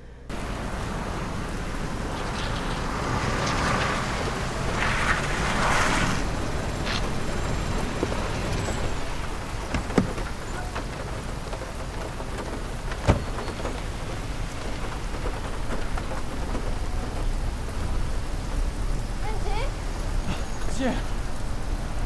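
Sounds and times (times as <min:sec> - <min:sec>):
steady rain falling: 0:00.3 - 0:22.0.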